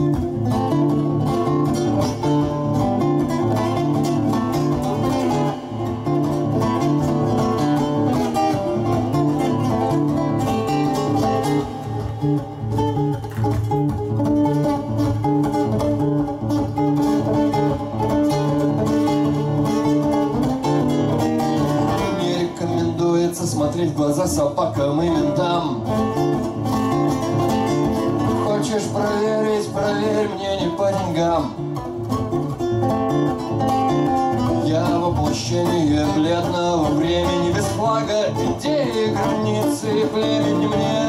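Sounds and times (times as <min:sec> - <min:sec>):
classical guitar picking: 0:00.0 - 0:41.0.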